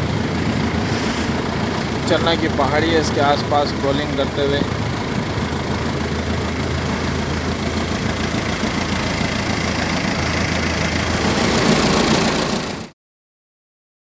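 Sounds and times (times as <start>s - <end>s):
boat engine humming: 0.0s - 12.9s.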